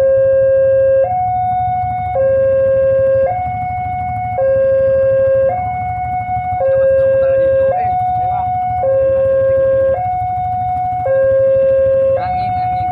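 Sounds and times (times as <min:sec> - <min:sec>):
level crossing two-tone alarm: 0:00.0 - 0:12.9.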